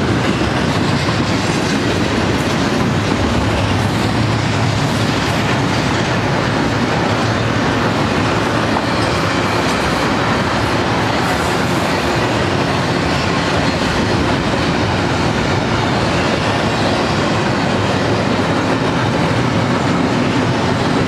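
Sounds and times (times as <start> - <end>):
freight train rolling past: 0.0 - 21.0
steel wheels on rails: 0.0 - 21.0.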